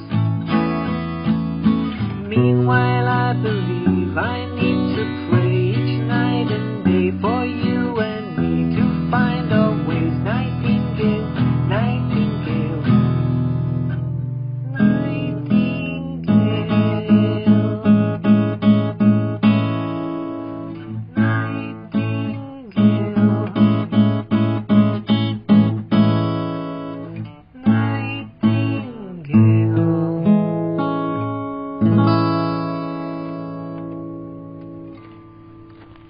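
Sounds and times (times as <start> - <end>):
acoustic guitar strumming chords: 0.0 - 36.0.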